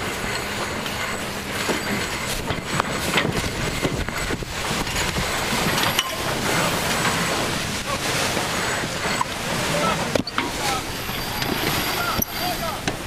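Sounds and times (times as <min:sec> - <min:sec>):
wind and water rushing: 0:00.0 - 0:13.0.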